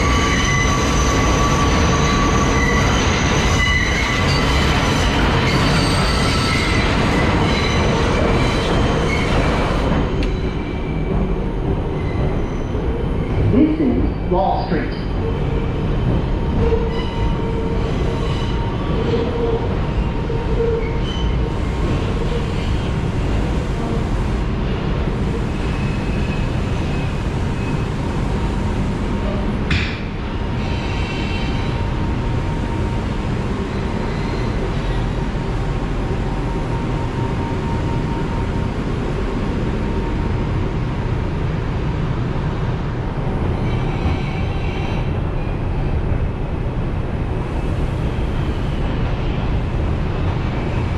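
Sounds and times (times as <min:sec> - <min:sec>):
subway car rumbling on rails: 0:00.0 - 0:50.9.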